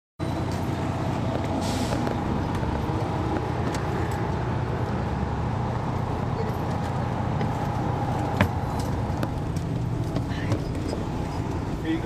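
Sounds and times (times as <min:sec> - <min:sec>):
diesel bus engine idling: 0:00.2 - 0:12.0.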